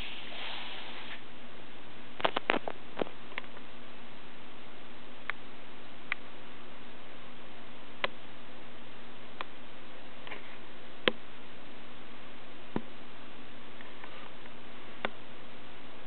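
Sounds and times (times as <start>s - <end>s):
recording hiss: 0.0s - 16.0s.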